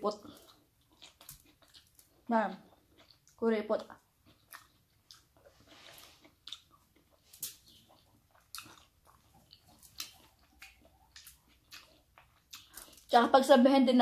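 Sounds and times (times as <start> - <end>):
chewing and lip-smacking: 0.1 - 13.2.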